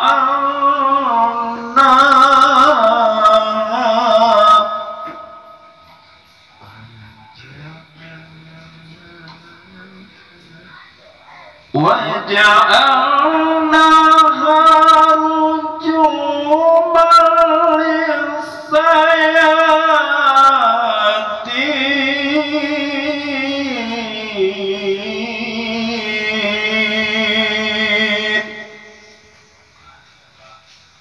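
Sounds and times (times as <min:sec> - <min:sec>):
person chanting melodically: 0:00.0 - 0:29.3.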